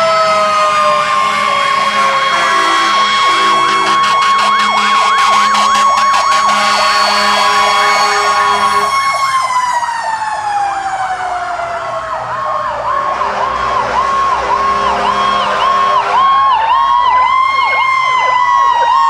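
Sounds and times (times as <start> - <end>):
fire truck sirens: 0.0 - 19.0.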